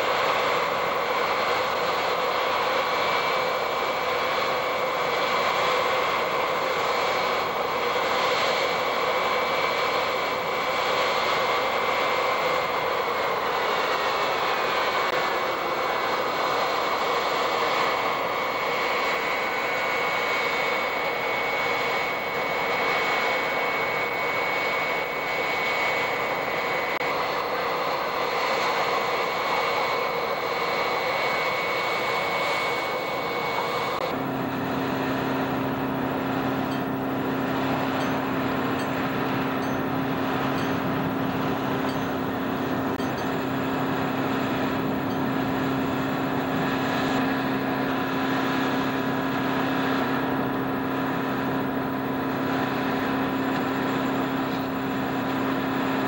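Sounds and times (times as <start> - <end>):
jet turbine whine: 0.0 - 56.0.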